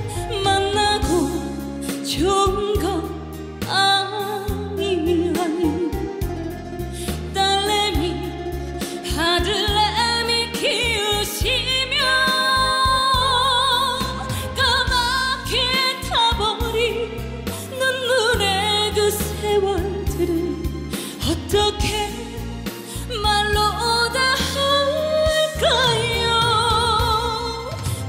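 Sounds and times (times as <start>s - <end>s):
band accompaniment: 0.0s - 28.0s
woman singing into microphone: 0.0s - 28.0s.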